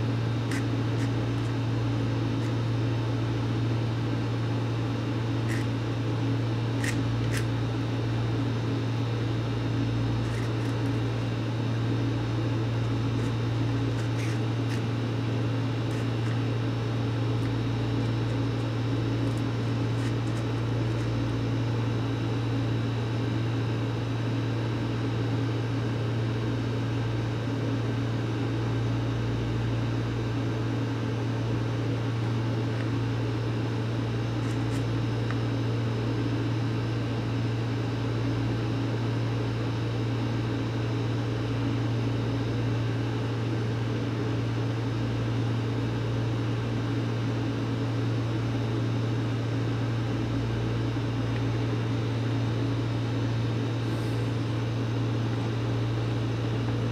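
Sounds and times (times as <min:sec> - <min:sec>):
electrical appliance hum: 0:00.0 - 0:56.9.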